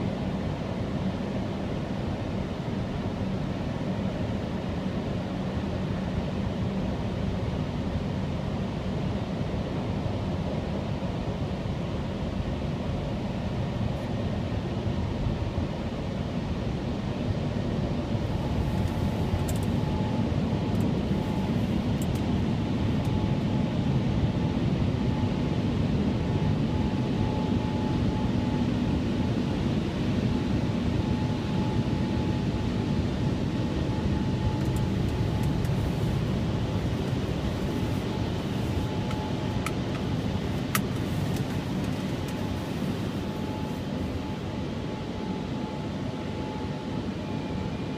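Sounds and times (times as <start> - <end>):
faint steady whine: 0.0 - 47.9.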